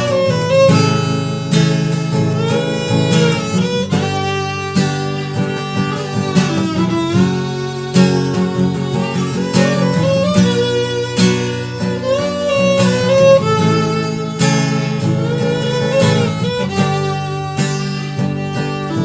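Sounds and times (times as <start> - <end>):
plucked chords: 0.0 - 19.0.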